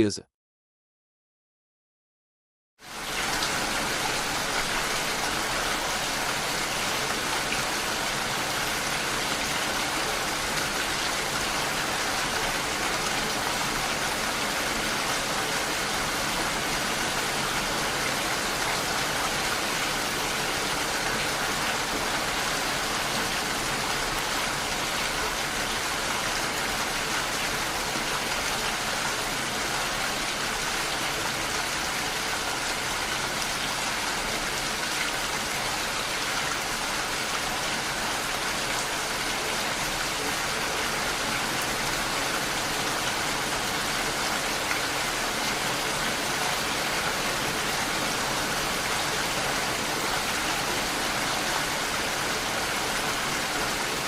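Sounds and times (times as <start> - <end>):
steady rain falling: 2.8 - 54.0.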